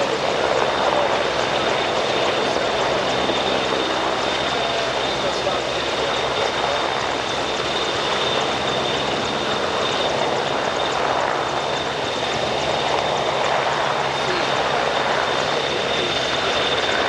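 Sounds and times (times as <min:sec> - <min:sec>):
helicopter rotors: 0:00.0 - 0:17.0
high turbine whine: 0:00.0 - 0:17.0.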